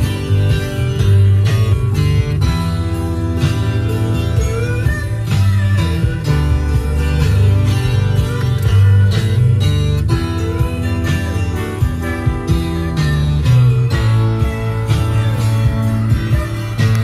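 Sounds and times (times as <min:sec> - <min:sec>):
guitar-led music: 0:00.0 - 0:17.0.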